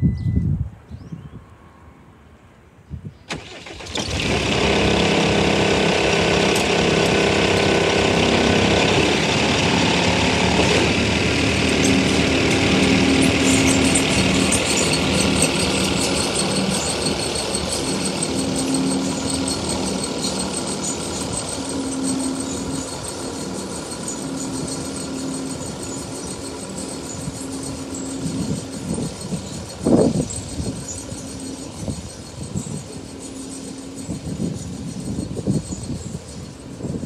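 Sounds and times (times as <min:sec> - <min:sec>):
diesel engine cranking and running: 0:03.3 - 0:36.3
high machine whine: 0:04.2 - 0:37.0.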